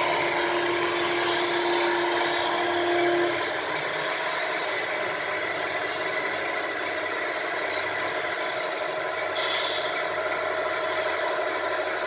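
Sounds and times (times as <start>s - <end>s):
model trucks whining: 0.0s - 12.0s.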